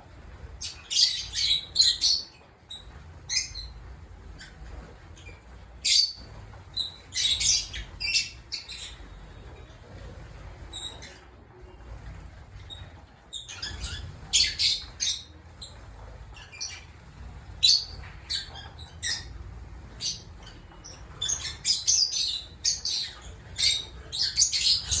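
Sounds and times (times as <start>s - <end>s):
lovebirds chirping and squawking: 0.2s - 25.0s.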